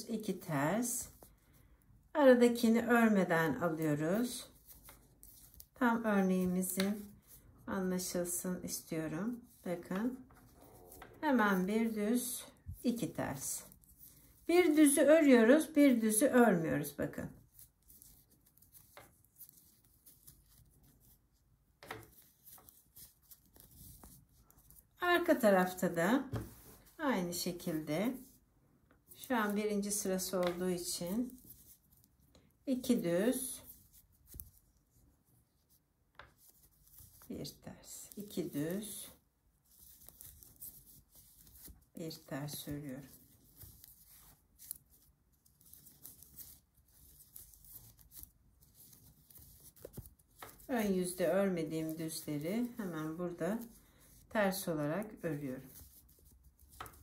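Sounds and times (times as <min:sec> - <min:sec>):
knitting needles scratching and ticking: 0:02.4 - 0:57.0.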